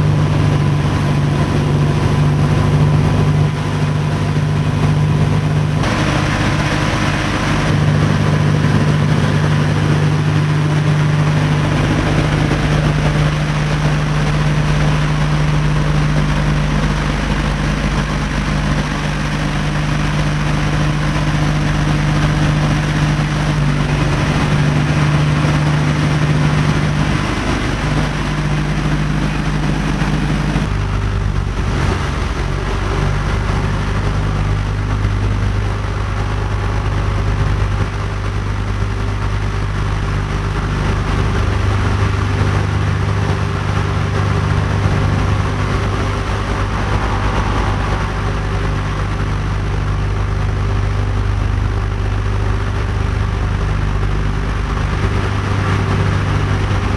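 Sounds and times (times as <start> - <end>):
propeller aircraft engines droning: 0.0 - 56.9.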